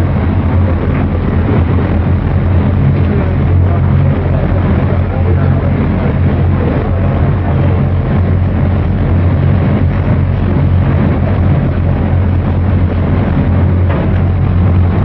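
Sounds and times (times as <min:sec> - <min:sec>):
boat engine drone: 0:00.0 - 0:15.0
rushing water noise: 0:00.0 - 0:15.0.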